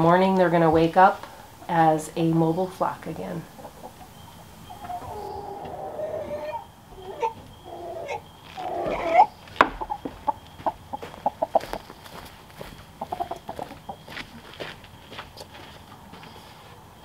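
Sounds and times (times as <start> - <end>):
chickens giving low calls: 0.0 - 17.0.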